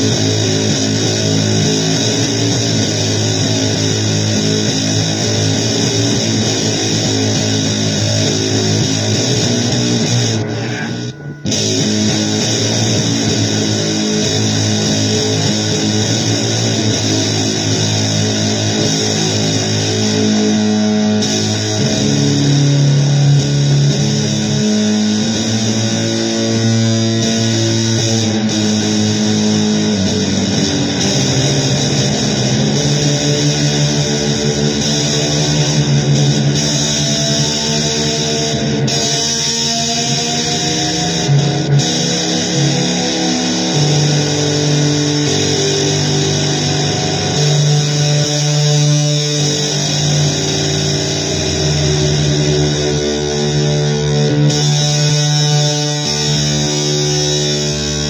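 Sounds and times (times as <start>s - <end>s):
blues guitar music: 0.0s - 58.0s.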